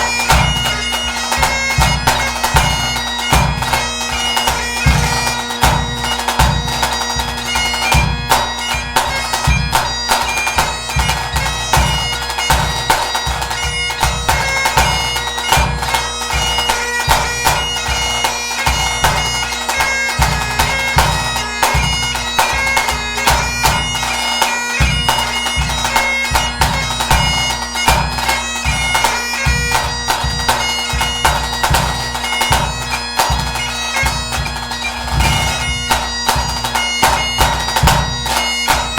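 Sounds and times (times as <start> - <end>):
bagpipe playing a tune: 0.0 - 38.9.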